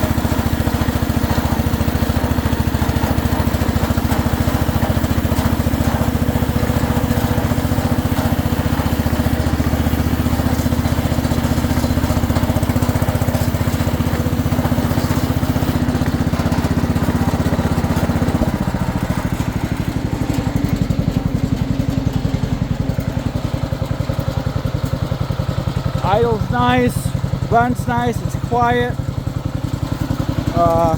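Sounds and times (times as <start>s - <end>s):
garden tractor engine running: 0.0s - 30.9s.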